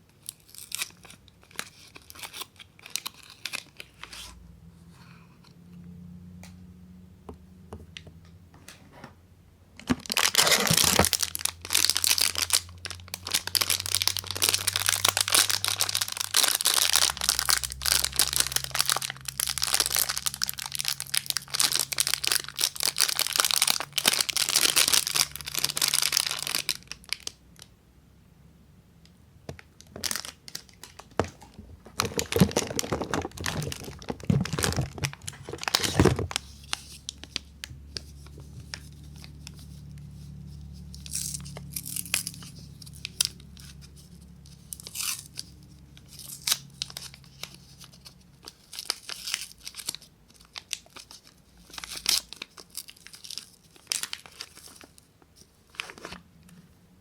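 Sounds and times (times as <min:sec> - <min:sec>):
wrapper crinkling and tearing: 0:00.2 - 0:04.4, 0:09.8 - 0:27.4, 0:29.6 - 0:56.2.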